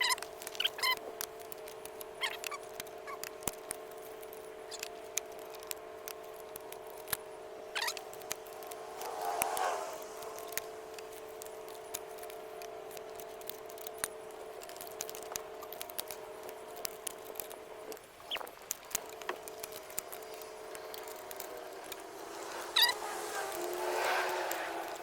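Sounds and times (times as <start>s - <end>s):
metallic clicks of clutch plates: 0.0s - 25.0s
steady hum: 0.0s - 25.0s.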